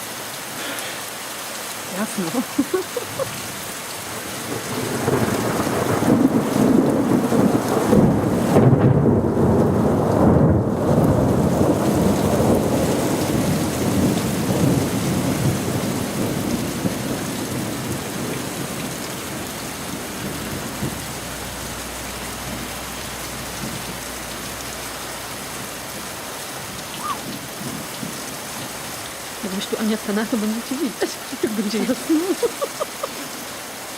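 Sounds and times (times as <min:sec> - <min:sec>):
steady rain: 0:00.0 - 0:33.9
thunder rumbling: 0:02.6 - 0:31.0.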